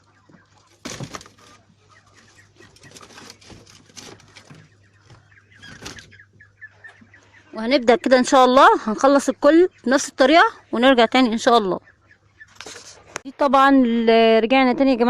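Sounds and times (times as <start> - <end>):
chickens clucking: 0.0 - 14.1.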